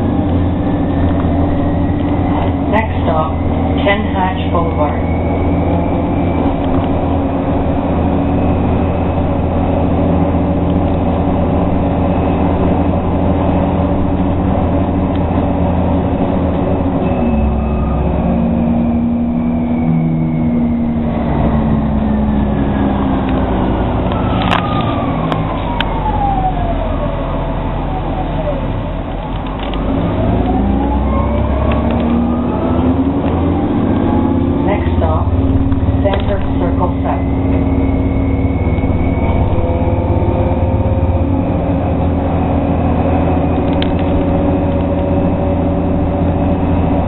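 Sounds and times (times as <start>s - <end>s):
bus drivetrain hum: 0.0s - 47.0s.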